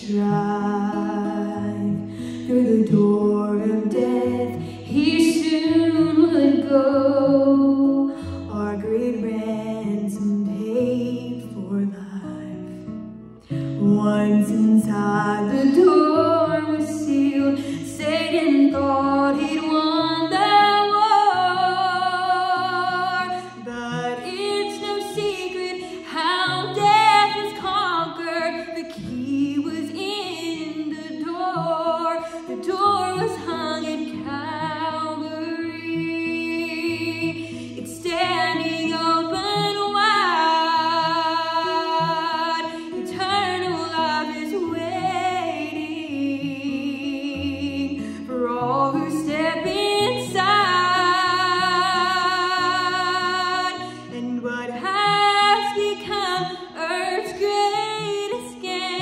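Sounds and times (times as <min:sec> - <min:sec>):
woman singing gospel song: 0:00.0 - 0:12.6, 0:13.8 - 0:59.0.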